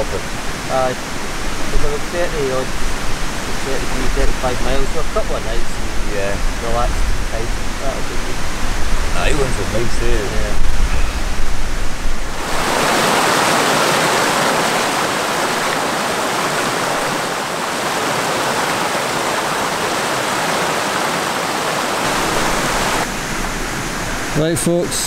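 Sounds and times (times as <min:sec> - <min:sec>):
stream rushing over boulders: 0:00.0 - 0:24.9.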